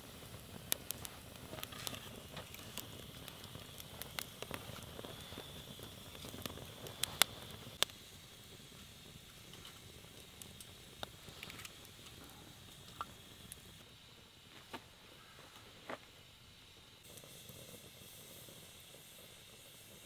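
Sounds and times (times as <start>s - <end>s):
sharp pops of fire: 0.0s - 13.9s, 17.0s - 20.0s
firewood crackling: 0.0s - 20.0s
low steady fire hiss: 0.0s - 20.0s.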